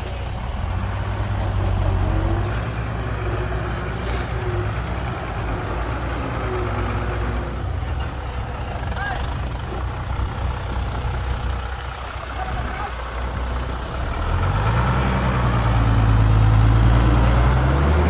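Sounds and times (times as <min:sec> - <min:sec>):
heavy diesel engine rumbling: 0:00.0 - 0:18.0.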